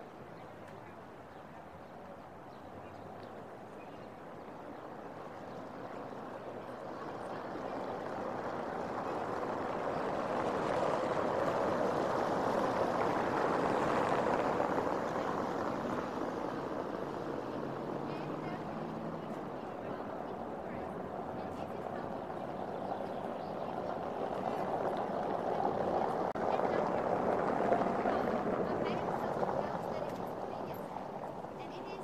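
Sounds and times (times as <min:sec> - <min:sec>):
vehicle passing on cobblestones: 0:00.0 - 0:32.0.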